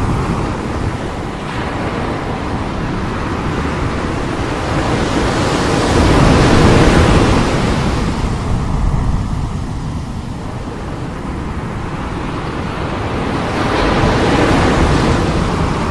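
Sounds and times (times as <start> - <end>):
sea waves breaking: 0.0 - 15.9.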